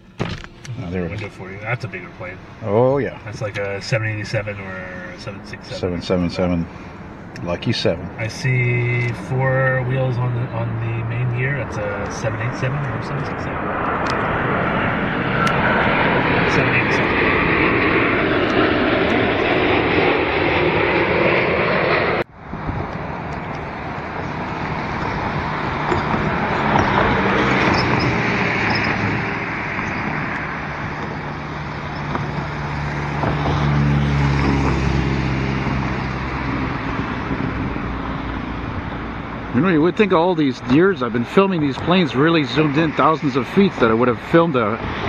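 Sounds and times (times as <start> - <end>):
jet airliner passing low: 0.0 - 45.0
low vehicle rumble: 0.0 - 45.0
road traffic noise: 0.0 - 45.0.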